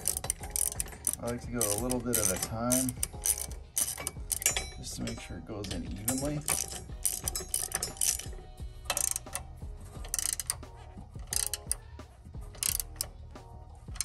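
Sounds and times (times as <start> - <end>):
hand ratchet clicking: 0.0 - 13.2.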